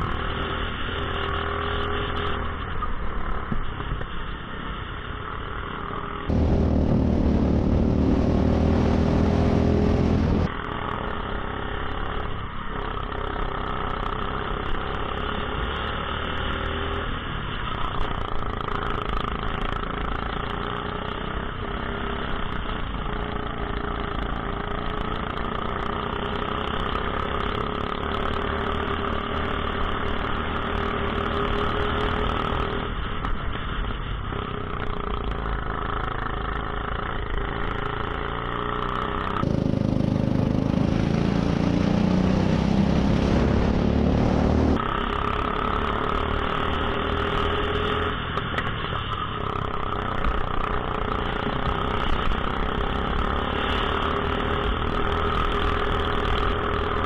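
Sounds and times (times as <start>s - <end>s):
go-kart engines running: 0.0s - 57.0s.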